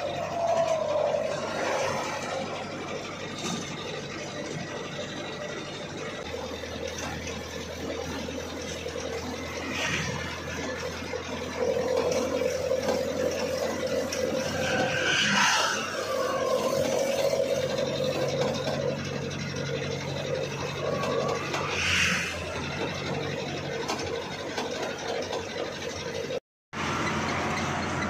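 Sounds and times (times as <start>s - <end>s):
diesel truck engine running: 0.0s - 28.0s
engine whine: 0.0s - 28.0s.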